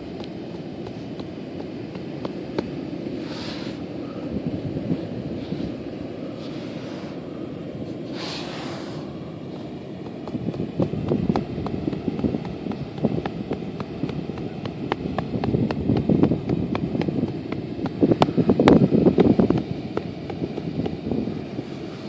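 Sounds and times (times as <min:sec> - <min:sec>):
dry sand sliding: 0:00.0 - 0:22.0.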